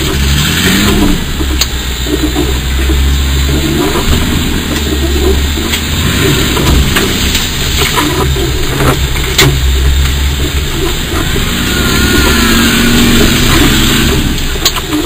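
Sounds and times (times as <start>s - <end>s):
engine running hard under load: 0.0s - 15.0s.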